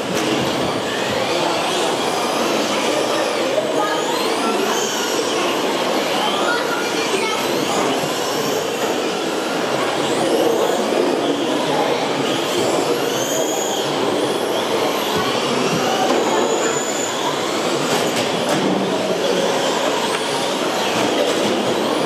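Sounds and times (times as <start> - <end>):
rc truck motors whining: 0.1 - 22.0.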